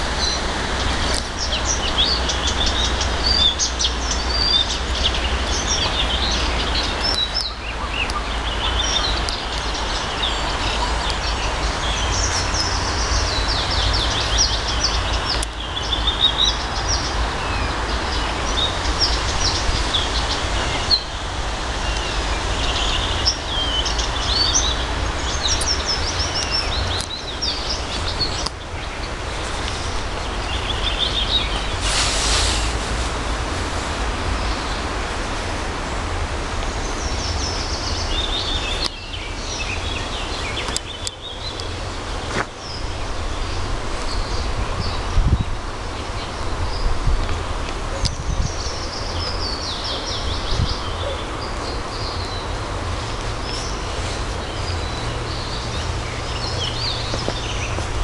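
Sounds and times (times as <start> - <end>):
songbirds singing and chirping: 0.0 - 32.0, 33.4 - 58.0.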